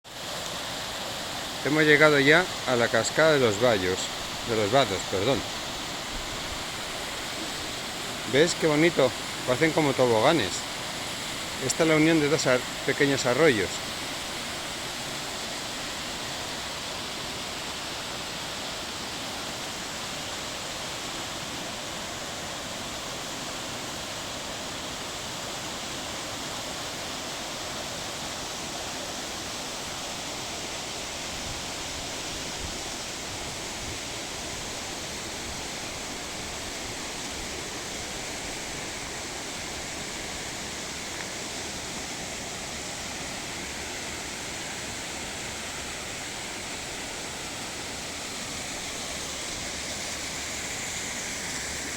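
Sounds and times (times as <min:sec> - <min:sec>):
water rushing down rocks: 0:00.1 - 0:51.9.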